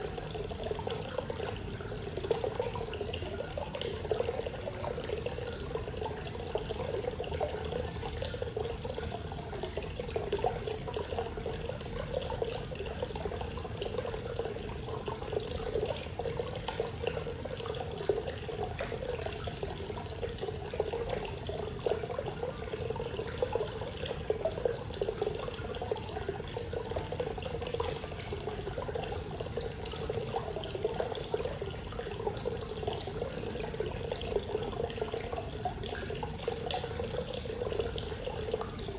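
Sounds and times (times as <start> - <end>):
water pouring into a bath: 0.0 - 38.9.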